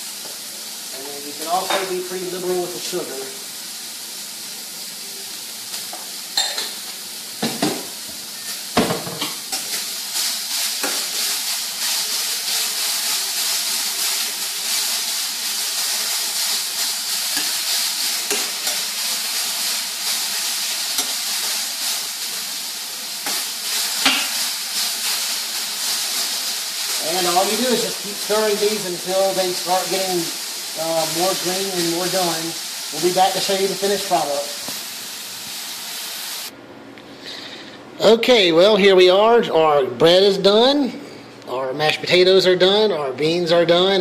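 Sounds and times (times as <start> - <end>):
beans sizzling in a skillet: 0.0 - 36.6.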